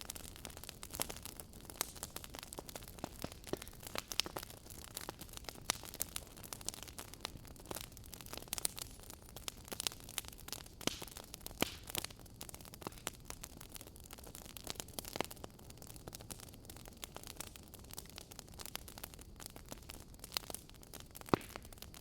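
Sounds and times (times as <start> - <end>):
fireplace crackling: 0.0 - 22.0.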